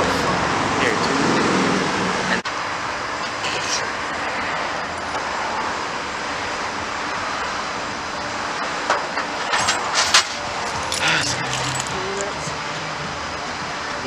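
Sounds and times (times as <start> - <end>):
road noise rush: 0.0 - 14.0.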